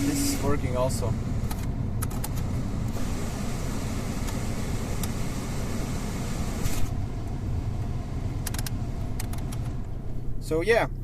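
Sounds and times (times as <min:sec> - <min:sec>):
engine idling rumble: 0:00.0 - 0:11.0.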